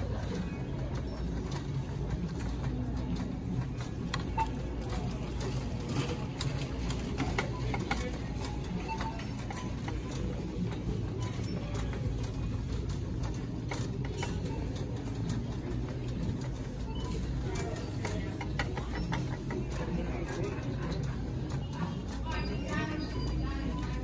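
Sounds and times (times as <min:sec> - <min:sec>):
shopping cart rolling: 0:00.0 - 0:24.0.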